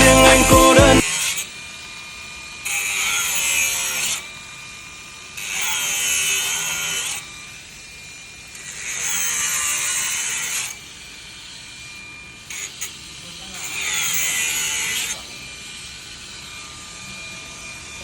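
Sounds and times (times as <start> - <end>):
electric power tool running: 0.0 - 18.0.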